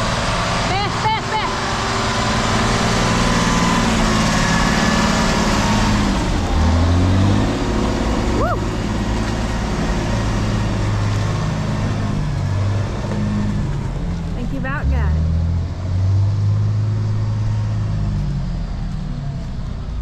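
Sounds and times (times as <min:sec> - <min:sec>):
diesel truck engine revving: 0:00.0 - 0:20.0.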